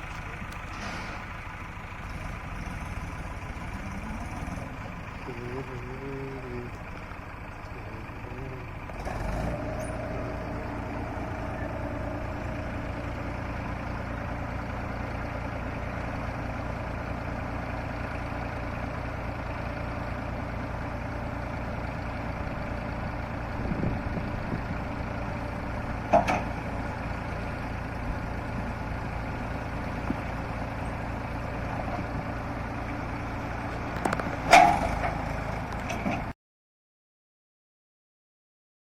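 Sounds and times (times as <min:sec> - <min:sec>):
heavy diesel engine running: 0:00.0 - 0:36.4.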